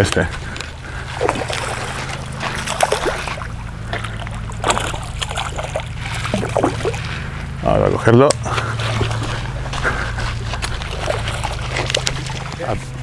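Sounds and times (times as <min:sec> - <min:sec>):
fish thrashing and splashing: 0:00.0 - 0:07.6, 0:08.5 - 0:12.9
steady low hum: 0:00.0 - 0:13.0.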